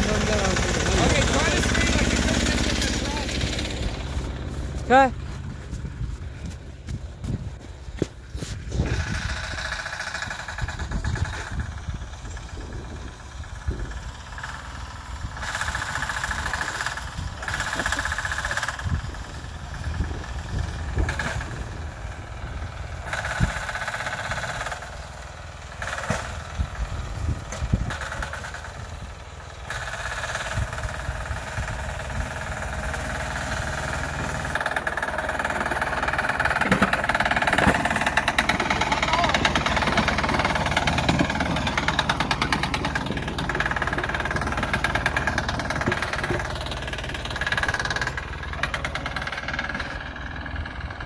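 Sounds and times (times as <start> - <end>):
diesel tractor engine running: 0.0 - 51.0.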